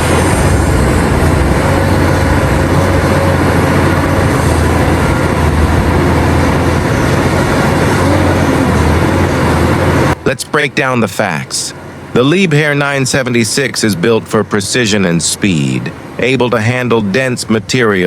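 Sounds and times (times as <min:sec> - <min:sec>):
heavy diesel machinery droning: 0:00.0 - 0:18.0.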